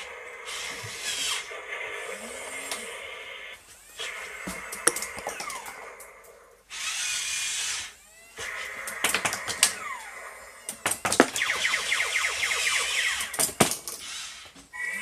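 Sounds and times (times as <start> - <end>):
toy robot motors whirring: 0.0 - 15.0.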